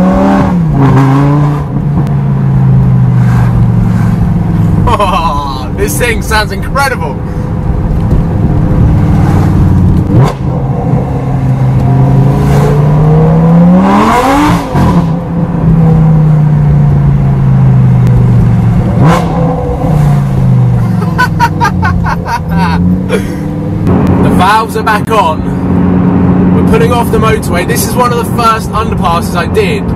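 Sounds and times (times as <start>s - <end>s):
car engine accelerating hard: 0.0s - 29.9s.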